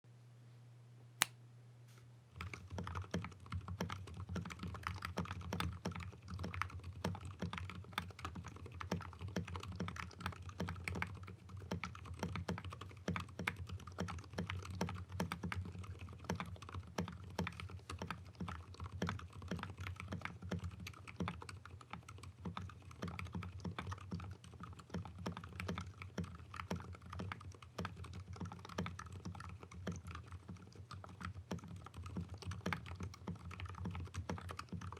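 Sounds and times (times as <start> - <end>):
typing on mechanical keyboard: 2.4 - 34.9.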